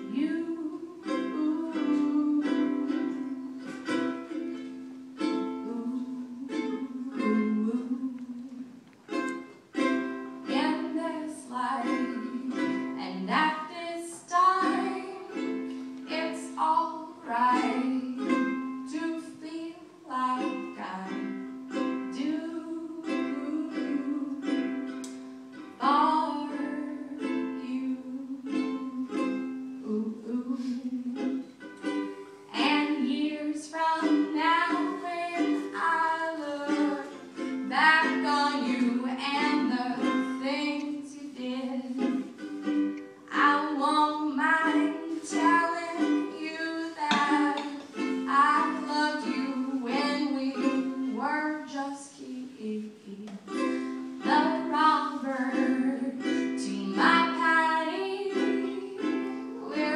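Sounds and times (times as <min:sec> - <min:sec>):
woman singing: 0:00.0 - 0:04.2, 0:05.2 - 0:08.8, 0:10.2 - 0:42.5, 0:43.2 - 0:59.9
ukulele strumming: 0:00.0 - 0:59.9.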